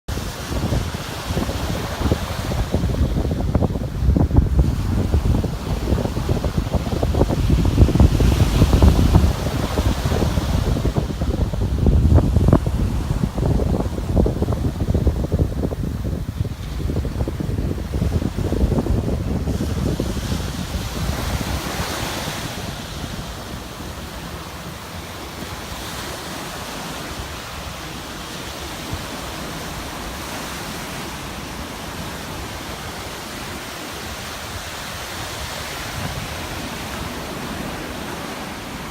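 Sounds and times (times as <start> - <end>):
low wind buffeting: 0.1 - 38.9
steady rushing noise outdoors: 0.1 - 38.9.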